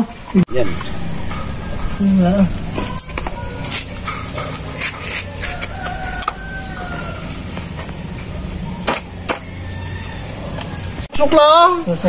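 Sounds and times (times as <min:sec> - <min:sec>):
steady low hum: 0:00.5 - 0:10.7.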